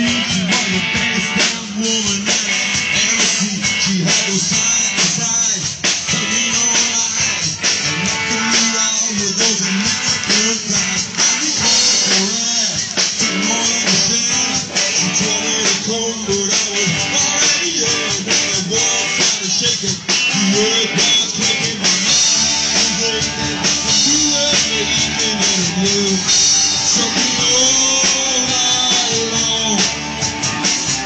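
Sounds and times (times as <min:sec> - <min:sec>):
drum kit with crashing cymbals: 0:00.0 - 0:31.0
electric guitar: 0:00.0 - 0:31.0
person singing: 0:00.0 - 0:31.0.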